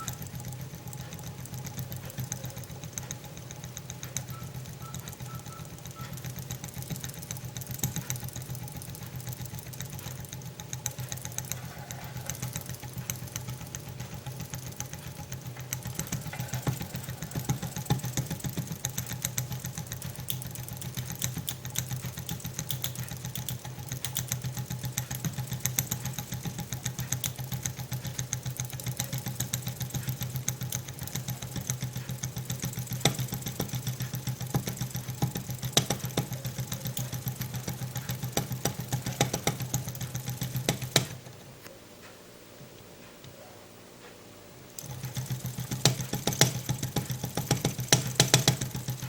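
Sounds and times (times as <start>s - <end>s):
stirling engine clicking: 0.0s - 41.3s, 44.8s - 49.0s.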